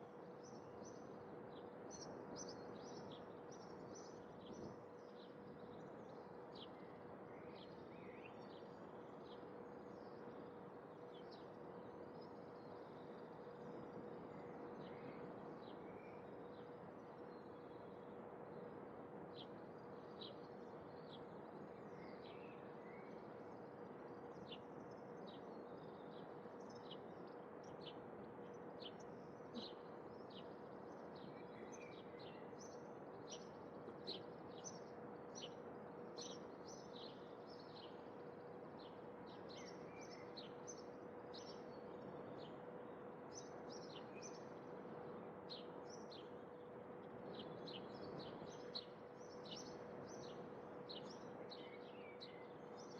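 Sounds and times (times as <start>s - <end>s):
faint constant hum: 0.0s - 52.9s
songbirds chirping: 0.0s - 52.9s.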